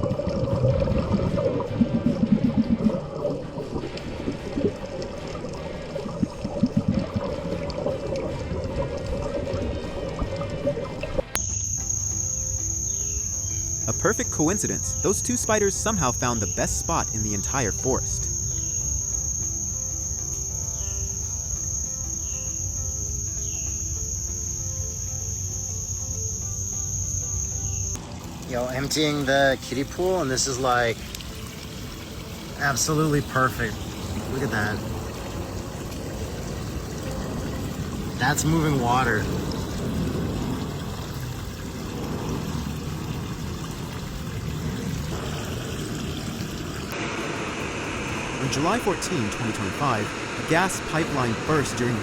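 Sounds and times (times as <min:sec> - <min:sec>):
water rushing out of a pool: 0:00.0 - 0:22.1, 0:27.9 - 0:52.0
soft background music: 0:00.0 - 0:45.5
insects droning: 0:00.0 - 0:52.0.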